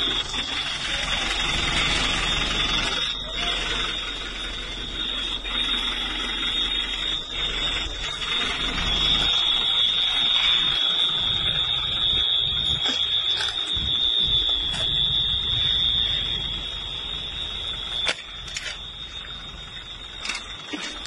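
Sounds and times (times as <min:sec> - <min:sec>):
high-pitched alarm tone: 0:00.0 - 0:21.0
low rumbling noise: 0:00.0 - 0:21.0.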